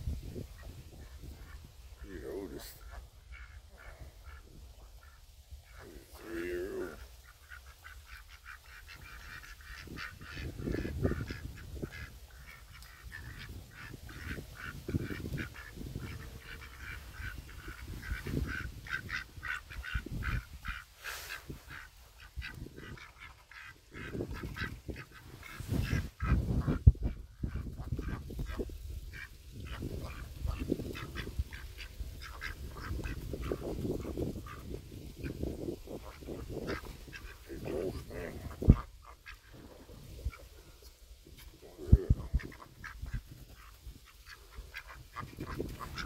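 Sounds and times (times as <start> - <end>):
ducks quacking: 0.6 - 46.0.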